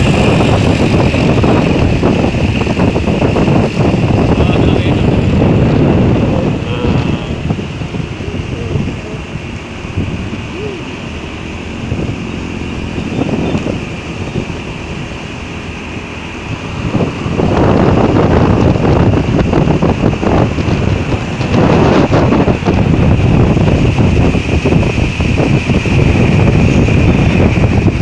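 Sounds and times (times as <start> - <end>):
road noise: 0.0 - 28.0
vehicle engine: 0.0 - 28.0
wind buffeting microphone: 0.0 - 28.0.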